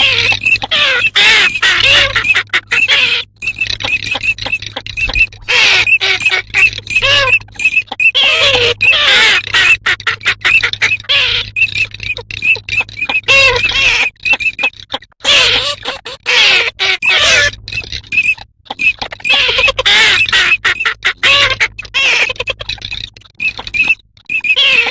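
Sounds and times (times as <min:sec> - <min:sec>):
steady low hum: 0:00.0 - 0:24.2
flock of ducks calling: 0:00.0 - 0:24.9.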